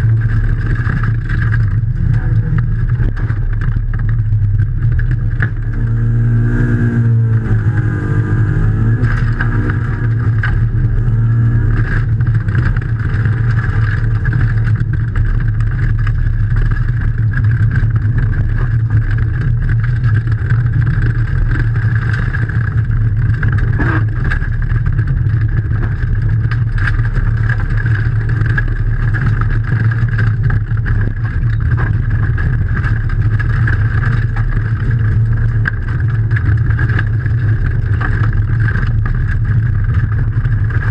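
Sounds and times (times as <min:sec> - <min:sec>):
car engine running hard: 0:00.0 - 0:40.9
road and tyre noise: 0:00.0 - 0:40.9.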